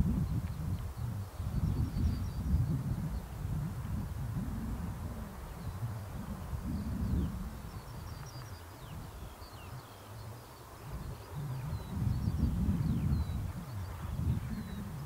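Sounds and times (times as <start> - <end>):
small birds chirping: 0.0 - 3.7, 4.4 - 15.0
low uneven rumble: 0.0 - 15.0.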